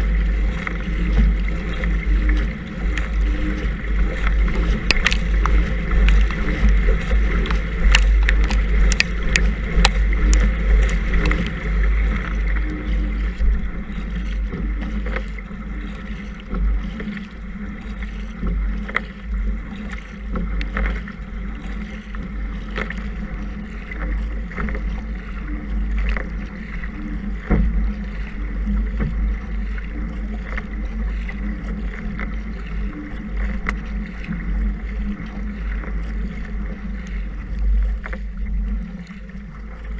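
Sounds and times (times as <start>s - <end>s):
paddle splashes: 0.0s - 39.9s
water rushing along hull: 0.0s - 39.9s.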